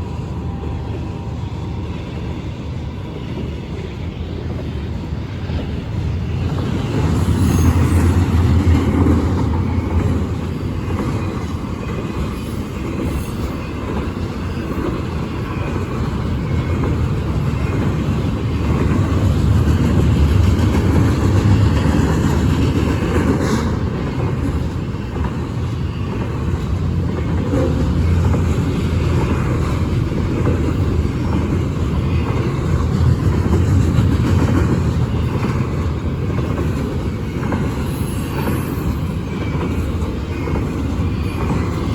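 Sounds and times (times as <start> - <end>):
freight train rumbling on rails: 0.0 - 41.9.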